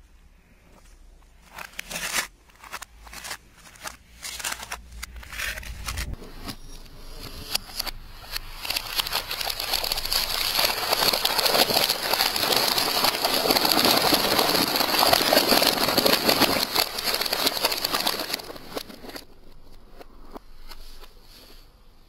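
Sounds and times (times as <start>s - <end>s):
plastic crackling under tyre: 0.7s - 21.6s.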